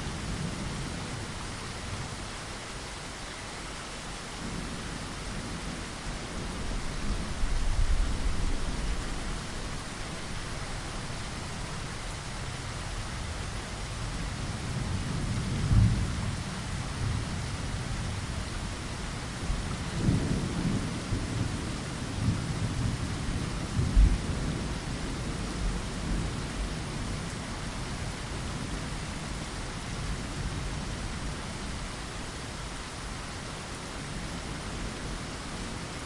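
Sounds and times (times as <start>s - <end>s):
rain falling against a window: 0.0s - 36.0s.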